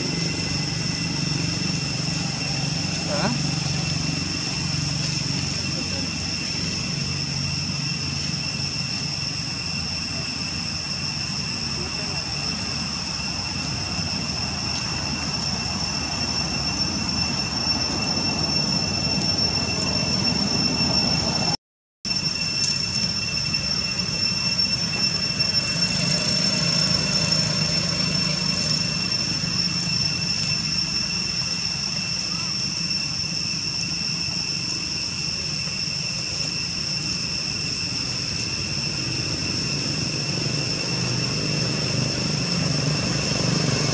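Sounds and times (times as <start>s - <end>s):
high-pitched insect buzz: 0.0s - 21.5s, 22.1s - 43.9s.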